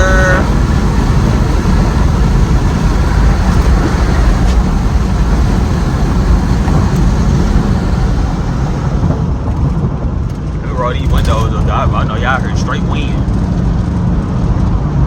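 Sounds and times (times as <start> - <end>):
car road noise: 0.0 - 15.0
wind buffeting through car windows: 0.0 - 15.0.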